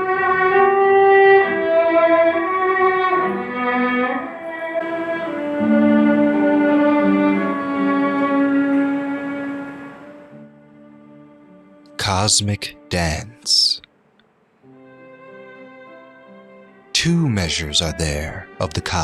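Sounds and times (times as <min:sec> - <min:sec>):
bowed string melody: 0:00.0 - 0:13.7, 0:14.7 - 0:19.0.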